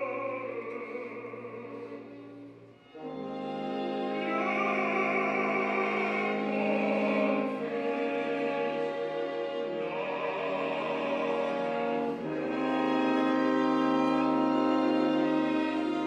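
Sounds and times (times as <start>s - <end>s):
operatic singing: 0.0s - 16.0s
small instrumental ensemble: 0.0s - 16.0s.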